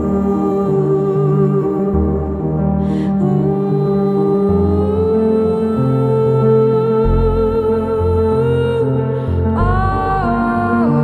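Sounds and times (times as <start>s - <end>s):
soft new-age background music: 0.0s - 11.0s.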